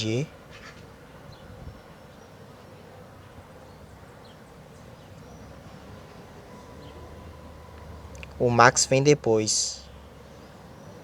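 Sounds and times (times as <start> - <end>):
distant jet engine drone: 0.0 - 11.0.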